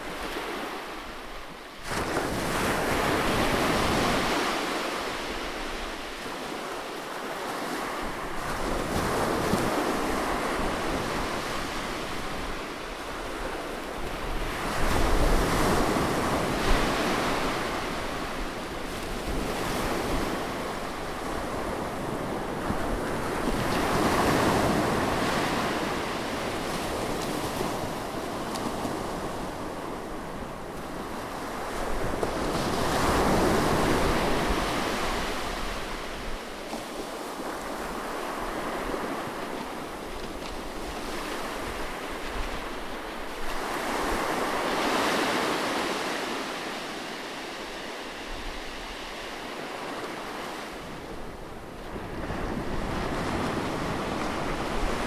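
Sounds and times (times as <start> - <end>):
waves breaking and washing back: 0.0 - 55.0.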